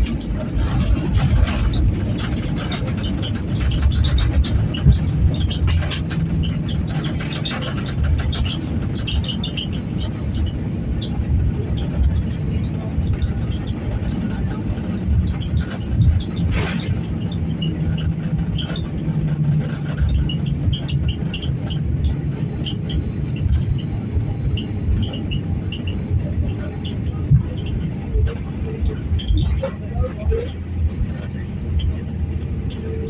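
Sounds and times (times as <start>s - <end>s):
jet airliner cabin rumble: 0.0s - 33.0s.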